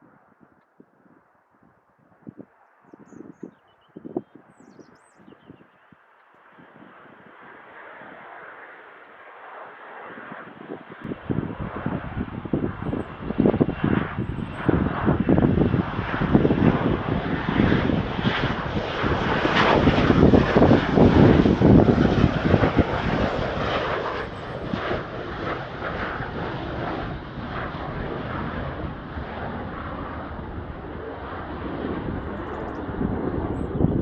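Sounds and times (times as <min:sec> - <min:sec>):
jet engines passing close by: 0:01.6 - 0:34.0.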